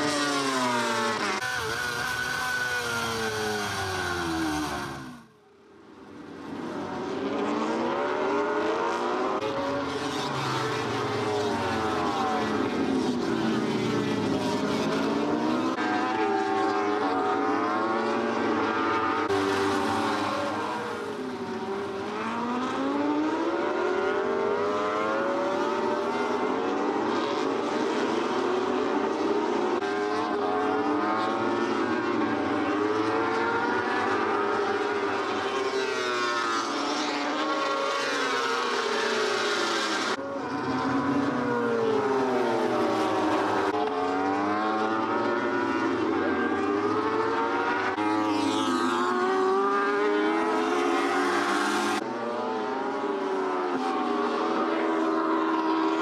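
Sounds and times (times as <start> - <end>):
racing motorcycles revving: 0.0 - 56.0.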